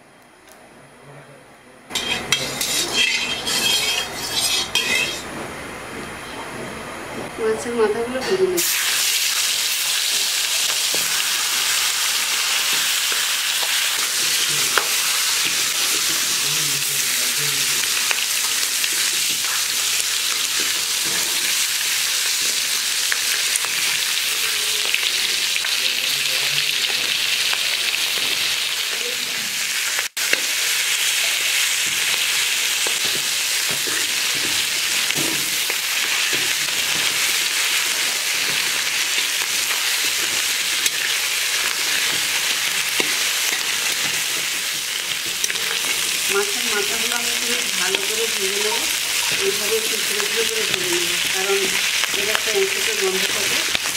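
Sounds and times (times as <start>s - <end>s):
fish frying in hot oil: 8.6s - 53.9s.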